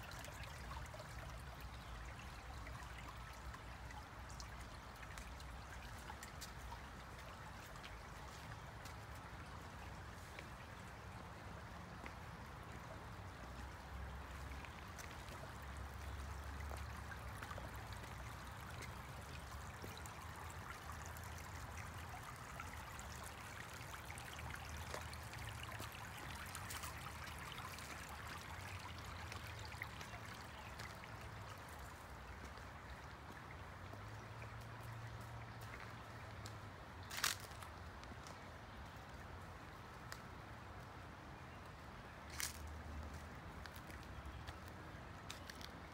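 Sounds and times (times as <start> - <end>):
stream trickling over stones: 0.0 - 45.9.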